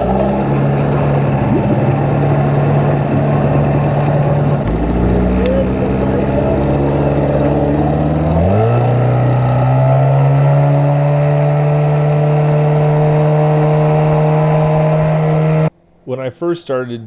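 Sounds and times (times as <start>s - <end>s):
outboard motor throttling up: 0.0s - 15.7s.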